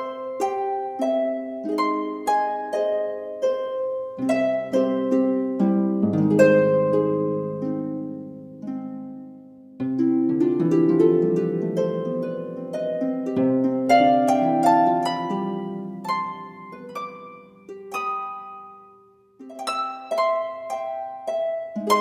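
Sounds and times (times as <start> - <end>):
harp being plucked: 0.0 - 22.0.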